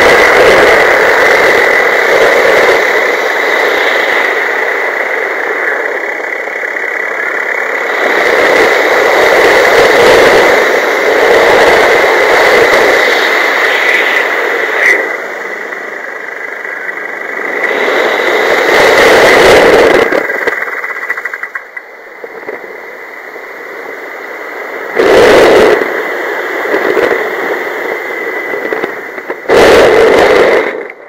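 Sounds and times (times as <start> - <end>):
thin high whine: 0.0 - 31.0
wind rushing over microphone: 0.0 - 31.0.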